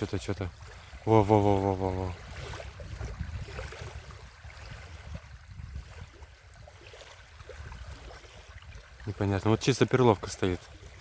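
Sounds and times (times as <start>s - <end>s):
waves lapping: 0.0s - 11.0s
wind buffeting microphone: 0.0s - 11.0s.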